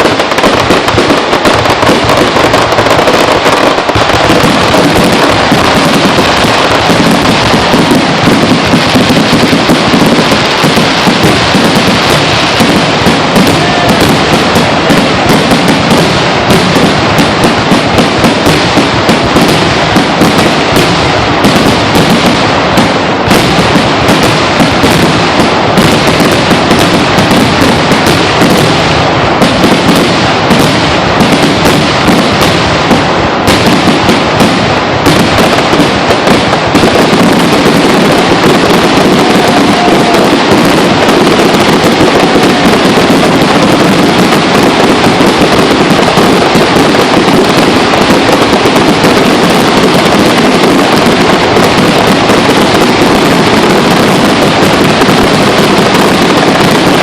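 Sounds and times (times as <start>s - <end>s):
fireworks crackling barrage: 0.0s - 57.0s.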